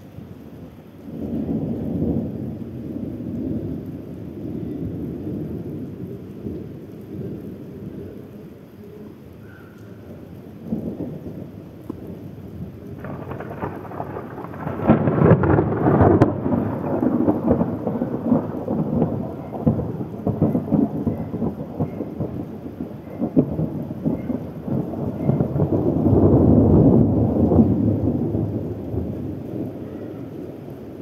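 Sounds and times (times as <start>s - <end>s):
steady rain: 0.0s - 31.0s
thunder rumbling: 1.0s - 8.6s, 10.0s - 31.0s.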